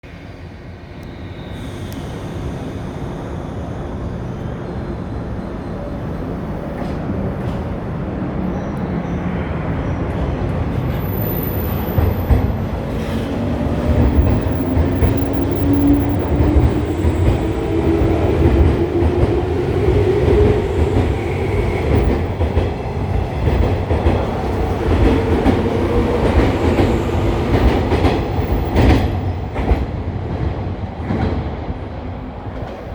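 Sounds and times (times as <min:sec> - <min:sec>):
train rumble: 0:00.1 - 0:32.9.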